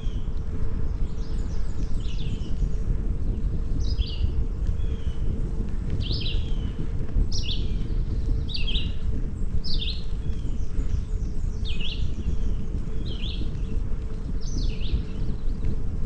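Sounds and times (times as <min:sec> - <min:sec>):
songbird singing: 0:00.0 - 0:15.9
bicycle tyres rolling on road: 0:00.0 - 0:16.0
wind on microphone: 0:00.0 - 0:16.0.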